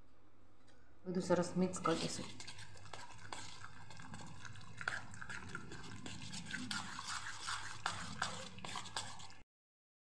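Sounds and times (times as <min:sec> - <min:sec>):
spoon stirring batter in bowl: 0:01.3 - 0:09.4.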